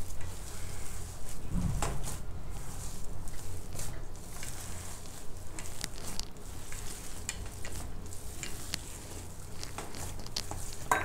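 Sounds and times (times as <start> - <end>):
hands squishing mashed potato: 0.0 - 10.9.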